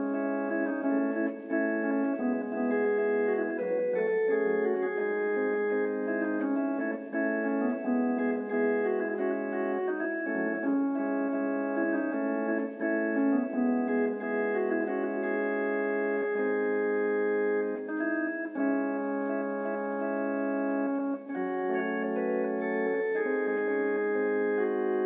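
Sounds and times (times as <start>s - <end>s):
organ playing a hymn: 0.0s - 25.0s.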